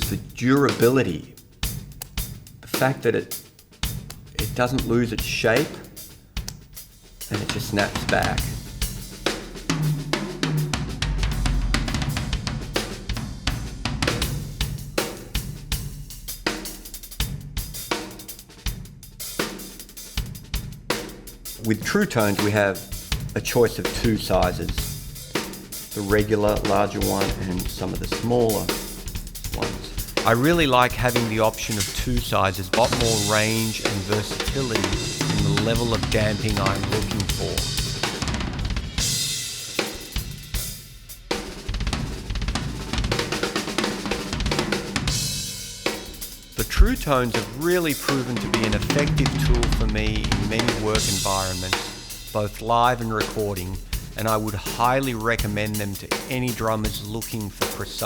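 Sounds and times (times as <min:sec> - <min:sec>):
drum kit groove: 0:00.0 - 0:58.0.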